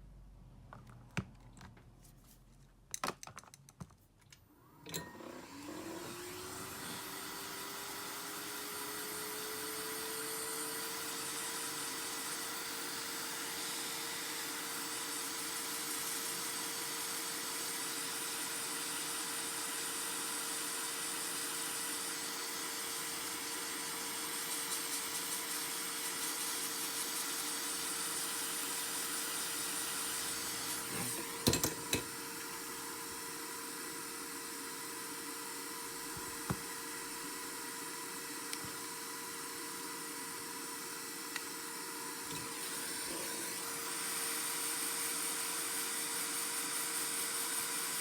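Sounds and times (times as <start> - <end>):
hot-air gun blowing: 6.1 - 48.0.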